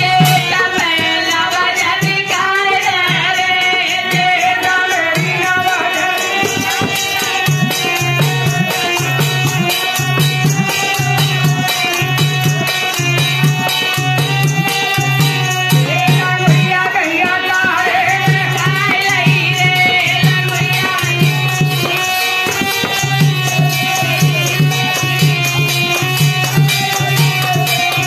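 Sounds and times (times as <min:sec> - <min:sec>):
dholak drum beat: 0:00.0 - 0:28.0.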